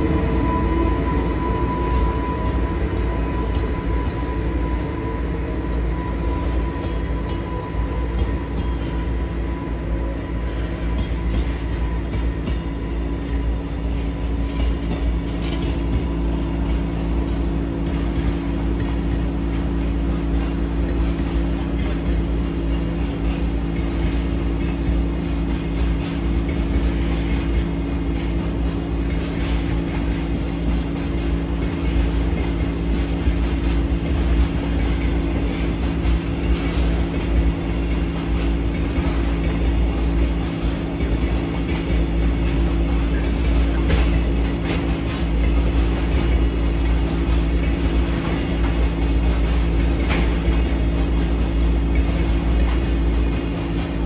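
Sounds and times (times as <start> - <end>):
freight train wheels rumbling: 0.0 - 54.0
clacks over rail joints: 10.5 - 54.0.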